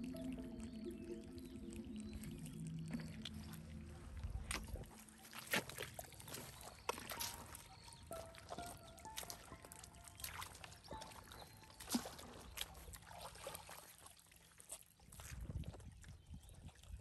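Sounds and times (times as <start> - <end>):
wading in shallow water: 0.0 - 17.0
water trickling: 0.0 - 17.0.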